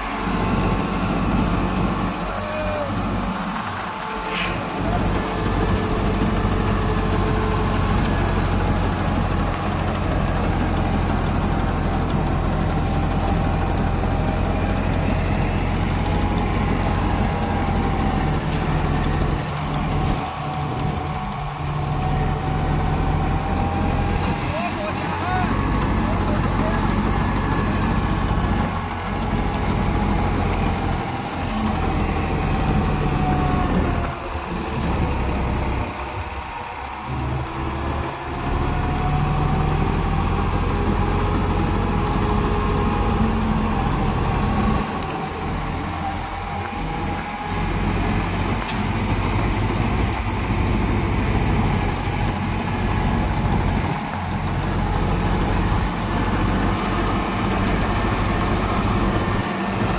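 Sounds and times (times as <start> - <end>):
diesel tractor engine running: 0.0 - 59.9
reaper whining: 0.0 - 59.9.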